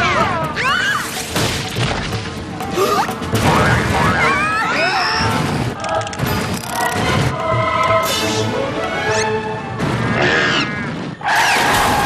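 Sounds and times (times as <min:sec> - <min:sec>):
cartoon action music: 0:00.0 - 0:12.0.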